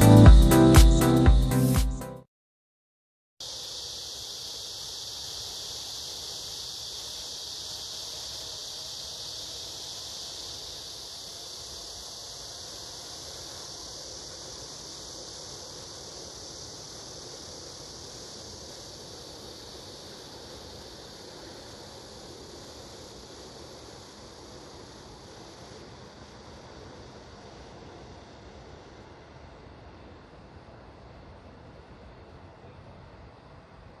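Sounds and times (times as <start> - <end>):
cicadas buzzing: 0.0 - 1.8, 3.4 - 33.9.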